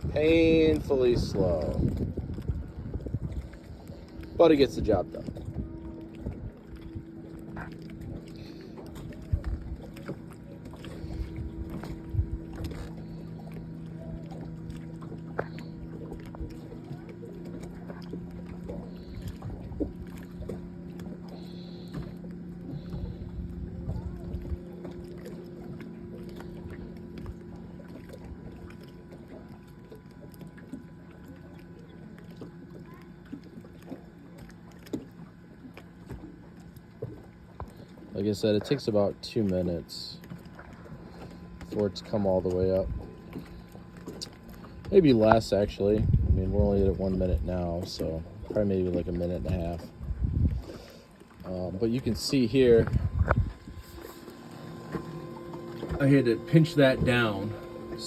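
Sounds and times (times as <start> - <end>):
actuator motor humming: 0.0 - 58.0.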